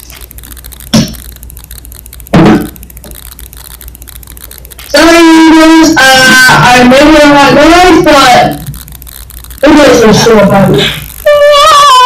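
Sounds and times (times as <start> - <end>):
loud held pitched tone: 0.0 - 12.0.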